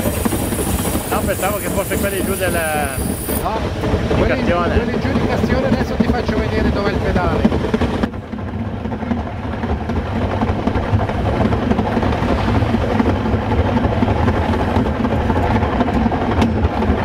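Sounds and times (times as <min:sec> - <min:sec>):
train drone and rumble: 0:00.0 - 0:17.0.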